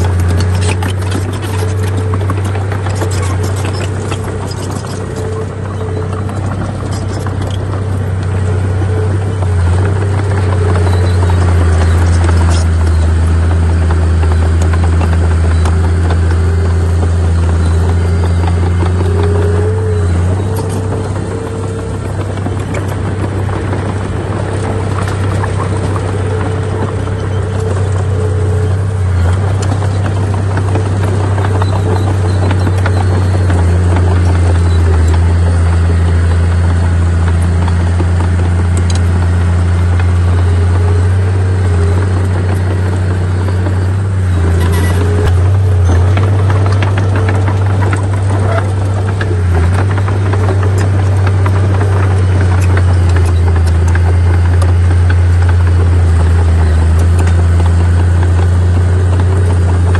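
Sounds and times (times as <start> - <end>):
diesel engine drone: 0.0 - 59.9
rumbling noise: 0.0 - 59.9.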